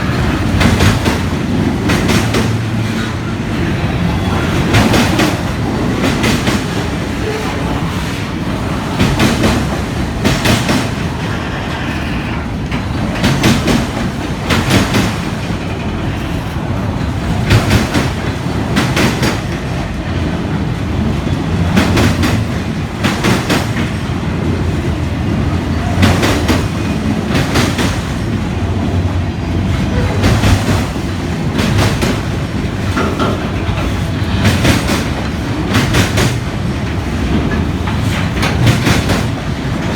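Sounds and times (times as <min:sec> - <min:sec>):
freight train rumbling: 0:00.0 - 0:39.9
wheels clicking over rail joints: 0:00.0 - 0:39.9.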